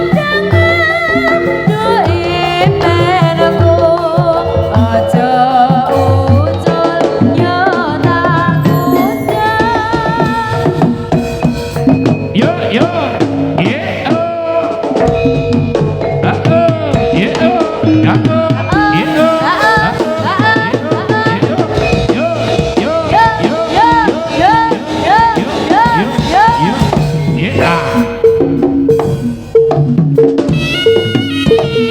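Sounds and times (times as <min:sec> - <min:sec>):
wavering pitched melody: 0:00.0 - 0:13.7, 0:15.0 - 0:31.9
hand drums beating: 0:00.0 - 0:31.9.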